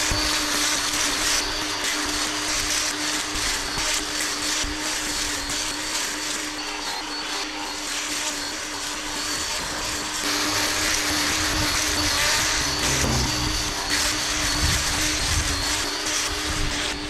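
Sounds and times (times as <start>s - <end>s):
blade cutting grass: 0.0s - 17.0s
brush cutter whining: 0.0s - 17.0s.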